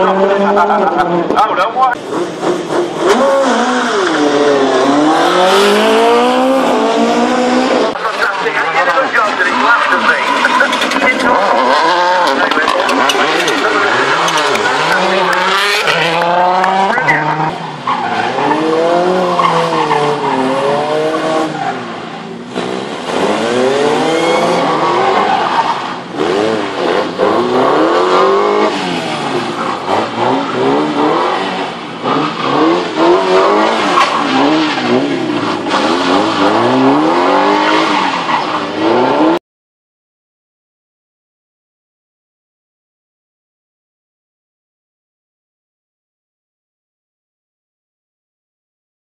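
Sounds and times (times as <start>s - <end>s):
car engines revving: 0.0s - 39.4s.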